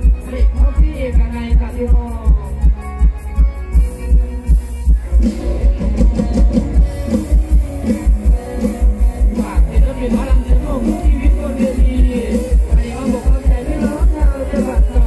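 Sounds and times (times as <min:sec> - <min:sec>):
heavy bass beat: 0:00.0 - 0:15.0
live band music: 0:00.0 - 0:15.0.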